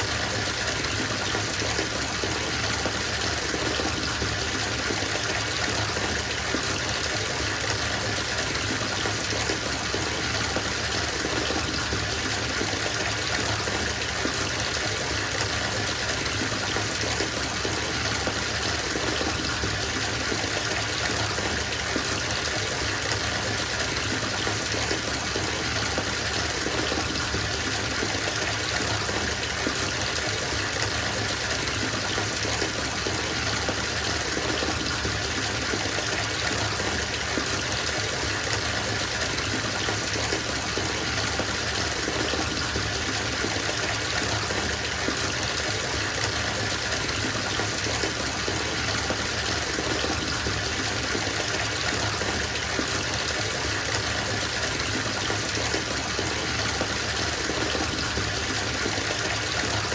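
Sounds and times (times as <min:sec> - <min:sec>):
water gushing into bathtub: 0:00.0 - 0:59.9.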